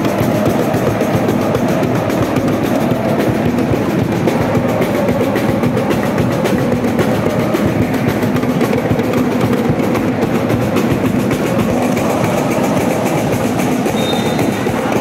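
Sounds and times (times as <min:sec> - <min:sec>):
crowd chanting and singing: 0:00.0 - 0:15.0
drums and cymbals beating: 0:00.0 - 0:15.0.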